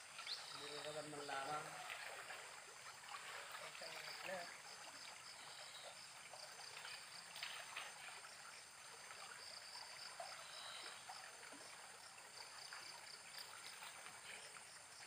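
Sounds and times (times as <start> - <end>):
faint flowing river water: 0.0 - 15.0.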